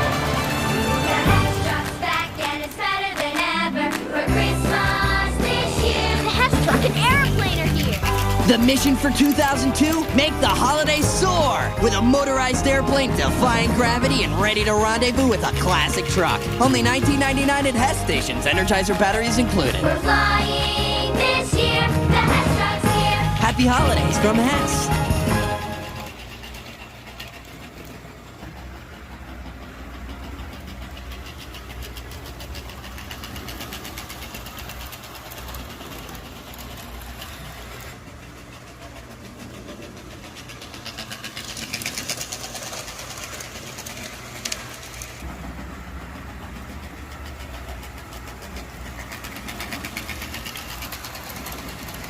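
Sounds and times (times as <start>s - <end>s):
model train clicking on track: 0.0s - 52.0s.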